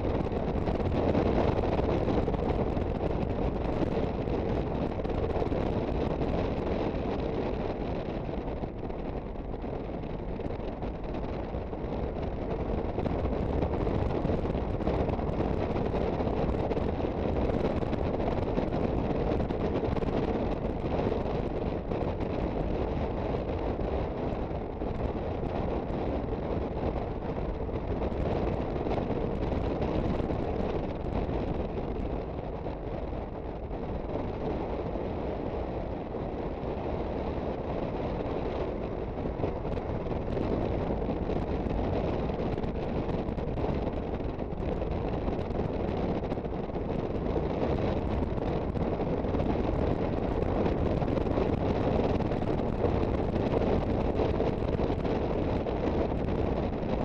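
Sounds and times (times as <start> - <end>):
scooter engine and road noise: 0.0 - 57.0
wind rush on microphone: 0.0 - 57.0.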